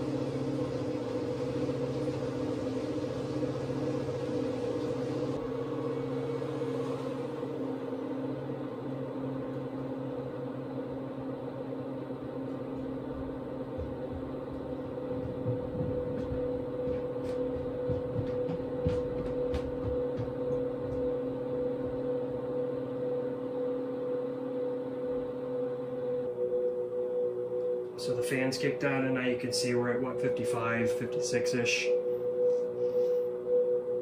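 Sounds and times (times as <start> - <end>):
cooling fans running: 0.0 - 34.0
inverters humming: 0.0 - 34.0.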